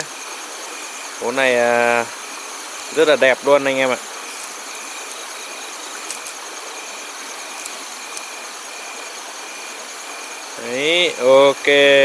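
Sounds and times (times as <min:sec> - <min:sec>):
crickets trilling: 0:00.0 - 0:12.0
running stream water: 0:00.0 - 0:12.0.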